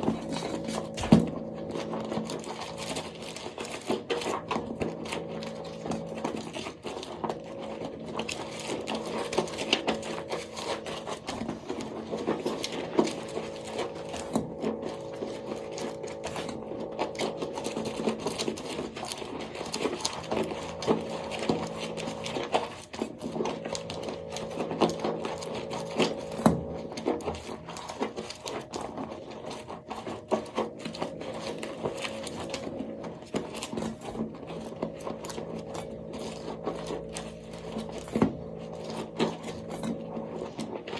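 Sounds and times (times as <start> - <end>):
dry soap crackling and crunching: 0.0 - 40.9
steady low hum: 0.0 - 40.9.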